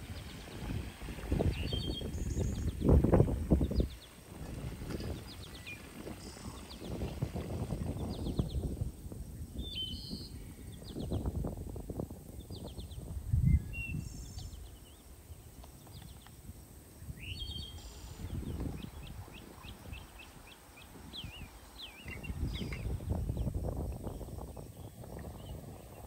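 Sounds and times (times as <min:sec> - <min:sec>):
wind buffeting microphone: 0:00.0 - 0:26.0
small birds chirping: 0:01.4 - 0:04.2, 0:04.9 - 0:11.4, 0:12.3 - 0:26.0.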